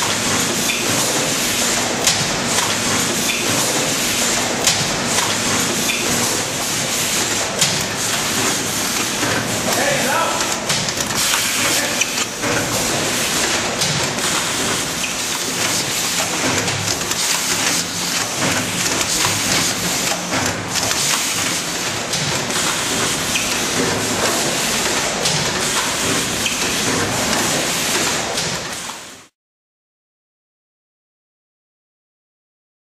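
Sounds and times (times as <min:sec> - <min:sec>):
conveyor clicks: 0:00.0 - 0:29.1
filling machine hiss and clatter: 0:00.0 - 0:29.3.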